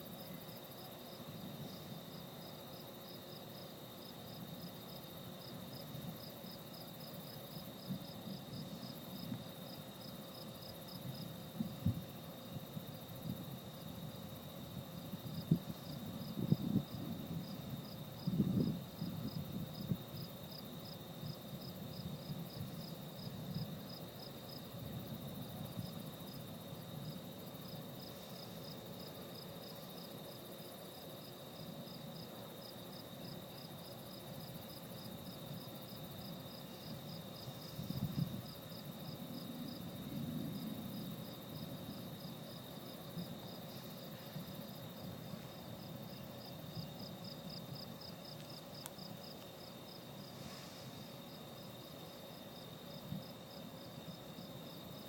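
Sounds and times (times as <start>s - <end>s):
crickets chirping: 0.0s - 55.0s
steady high insect trill: 0.0s - 55.0s.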